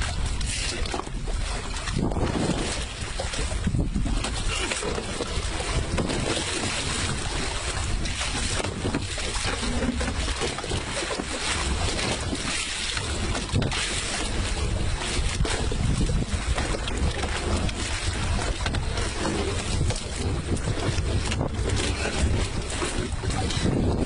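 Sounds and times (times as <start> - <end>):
water sloshing around boat: 0.0 - 24.0
wind buffeting microphone: 0.0 - 24.0.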